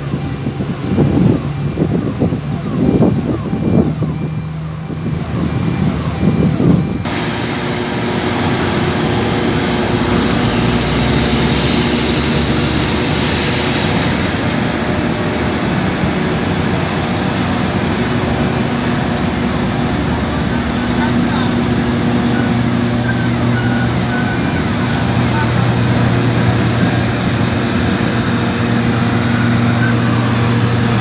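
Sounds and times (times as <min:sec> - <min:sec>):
large engine humming: 0:00.0 - 0:31.0.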